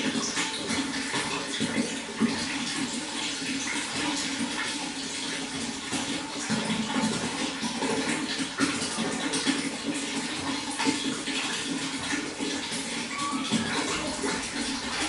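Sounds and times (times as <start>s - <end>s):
running water splashing: 0.0s - 15.0s.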